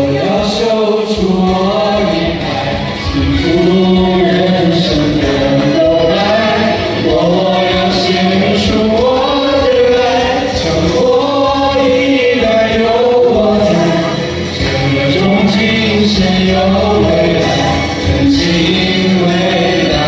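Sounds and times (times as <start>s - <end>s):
choir singing: 0.0s - 20.0s
music: 0.0s - 20.0s.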